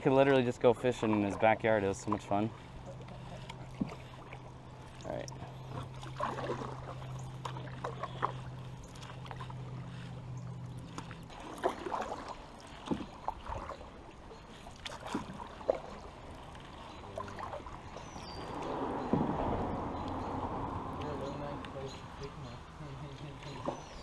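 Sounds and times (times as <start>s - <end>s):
paddles knocking against canoe: 0.0s - 22.4s, 23.1s - 24.0s
steady low hum: 0.0s - 23.2s
paddles splashing in water: 0.0s - 24.0s.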